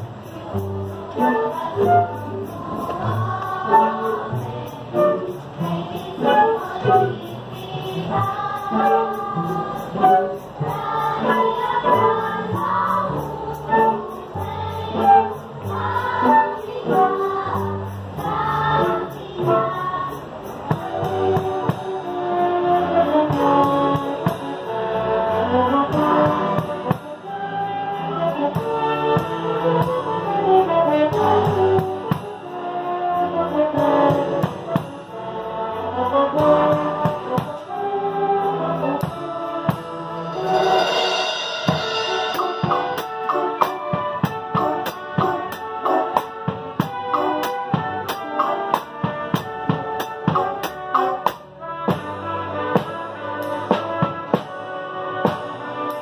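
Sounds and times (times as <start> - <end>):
choir and band performing: 0.0 - 56.0.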